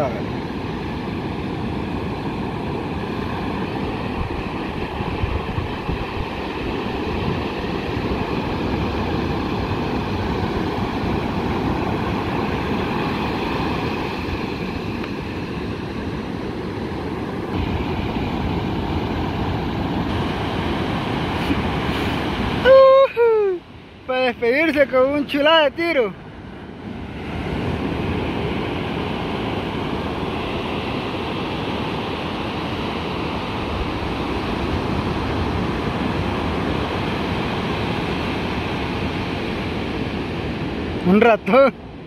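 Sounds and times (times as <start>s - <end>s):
wind rumbling on microphone: 0.0s - 41.1s
ocean surf breaking: 0.0s - 42.0s.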